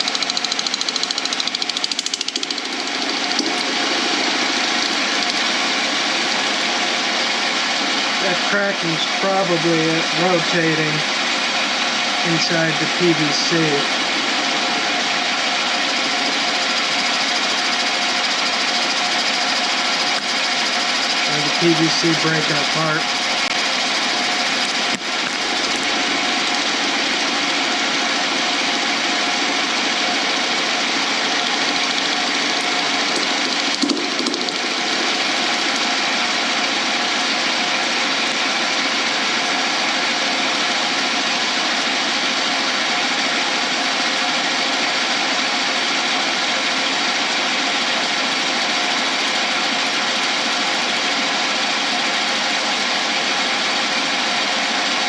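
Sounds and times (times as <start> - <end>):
lathe machining: 0.0 - 55.0.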